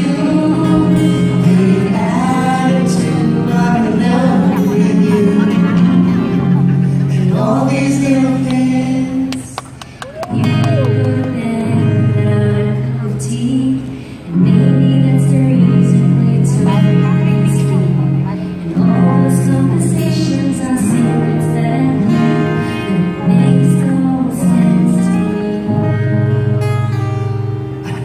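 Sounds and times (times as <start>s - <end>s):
person singing into microphone: 0.0s - 26.9s
acoustic guitars strummed: 0.0s - 28.0s.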